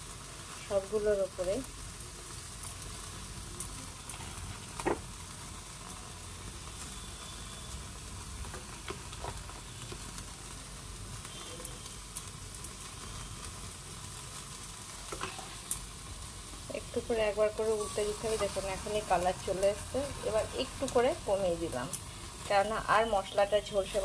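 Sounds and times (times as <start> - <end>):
kebabs sizzling over flame: 0.0 - 24.0
sharp crackles and pops: 0.0 - 24.0.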